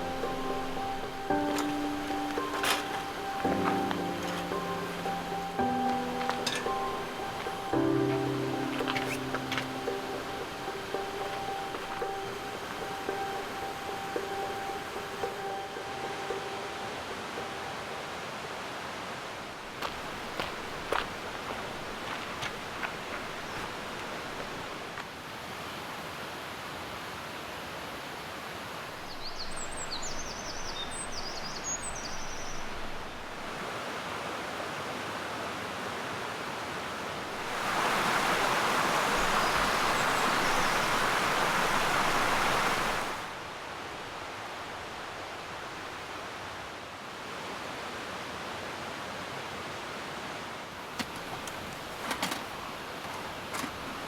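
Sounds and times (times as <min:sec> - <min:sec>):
outdoor background hiss: 0:00.0 - 0:54.0.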